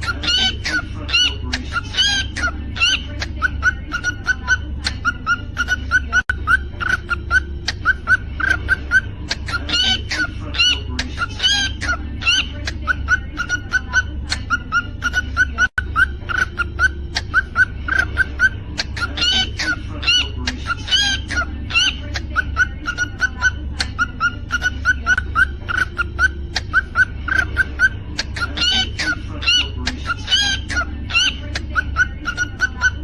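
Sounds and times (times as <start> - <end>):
cockatiel whistling and chirping: 0.0 - 33.0
steady low hum: 0.0 - 33.0.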